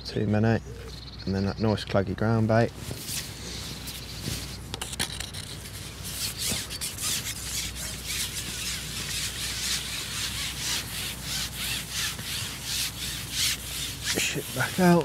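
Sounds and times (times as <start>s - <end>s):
fishing pole sections scraping: 2.9s - 15.0s.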